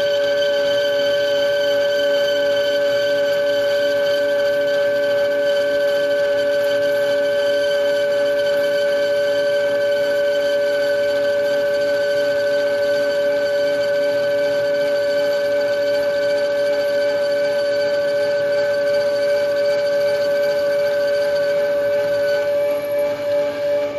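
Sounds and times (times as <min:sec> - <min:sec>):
metal lathe high-pitched whine: 0:00.0 - 0:23.9.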